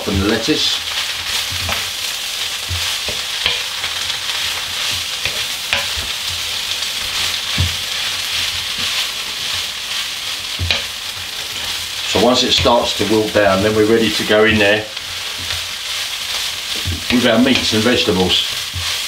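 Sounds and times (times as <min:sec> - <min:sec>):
food sizzling in a wok: 0:00.0 - 0:19.0
wooden spatula scraping a pan: 0:00.6 - 0:19.0.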